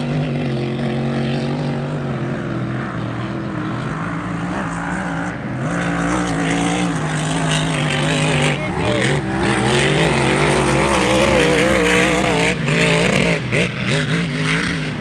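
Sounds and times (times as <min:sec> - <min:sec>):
race boat engines droning: 0:00.0 - 0:15.0.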